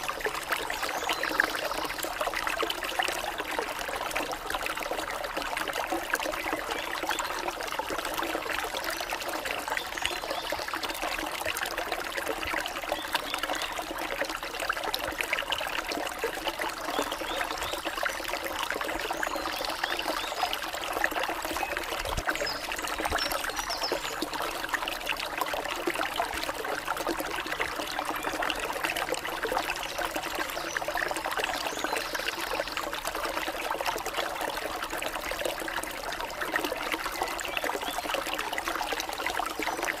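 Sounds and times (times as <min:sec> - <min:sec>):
stream trickling and splashing: 0:00.0 - 0:40.0.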